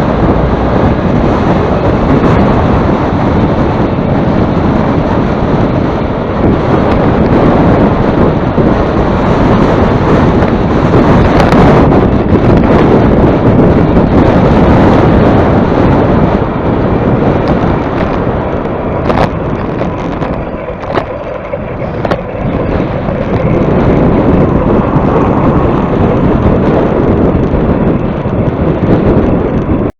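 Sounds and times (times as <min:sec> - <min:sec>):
heavy wind buffeting microphone: 0:00.0 - 0:29.9.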